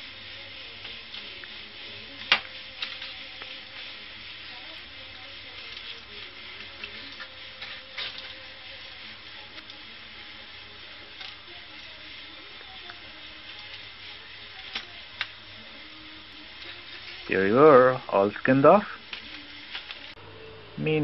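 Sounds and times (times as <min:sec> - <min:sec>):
crackling foil and scraping: 0:00.0 - 0:20.2
steady hiss: 0:00.0 - 0:21.0.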